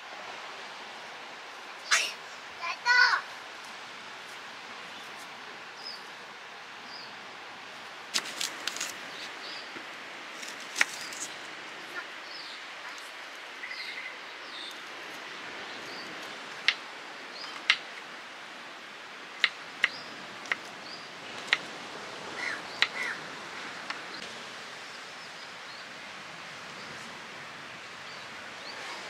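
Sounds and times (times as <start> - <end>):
steady outdoor hiss: 0.0 - 29.0.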